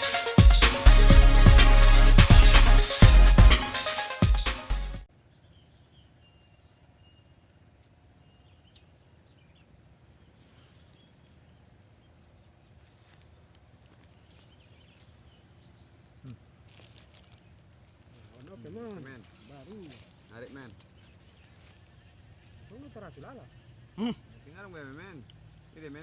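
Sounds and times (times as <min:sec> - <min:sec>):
insect chirping: 0:05.1 - 0:26.0.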